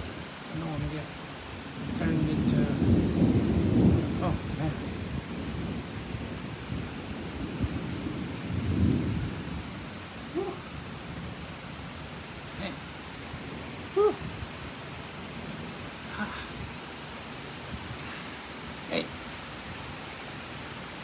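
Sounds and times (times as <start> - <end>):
steady rain falling: 0.0 - 21.0
low thunder rumbling: 1.6 - 18.4.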